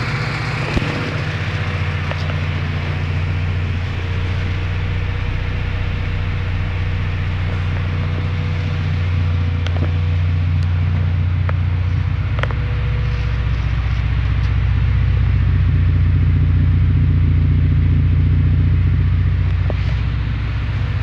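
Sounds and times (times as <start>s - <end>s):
car engine idling at exhaust: 0.0s - 21.0s.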